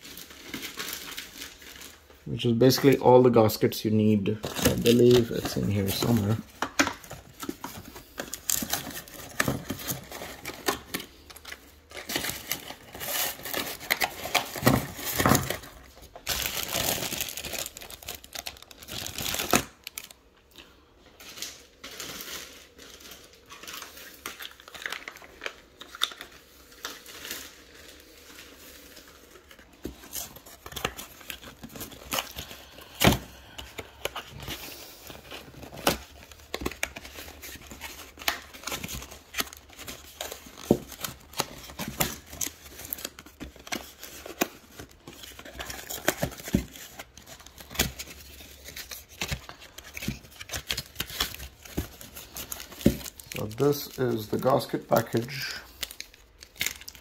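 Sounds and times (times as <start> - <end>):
plastic and paper crinkling: 0.0 - 57.0.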